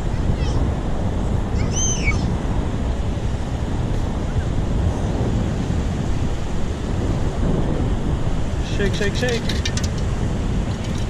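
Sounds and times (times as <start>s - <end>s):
beach surf: 0.0s - 11.0s
wind buffeting microphone: 0.0s - 11.0s.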